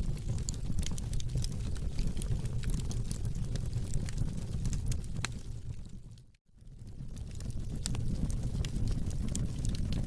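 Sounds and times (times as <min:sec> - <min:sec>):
fire crackling: 0:00.0 - 0:10.0.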